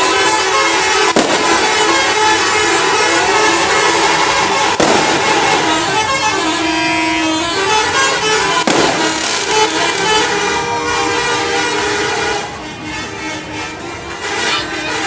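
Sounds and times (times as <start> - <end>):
melodic bus air horn: 0.0 - 15.0.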